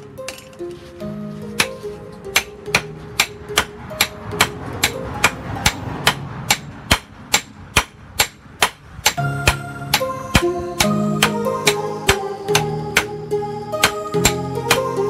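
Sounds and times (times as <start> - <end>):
hammer striking hot steel on anvil: 1.6 - 13.1, 13.8 - 14.9.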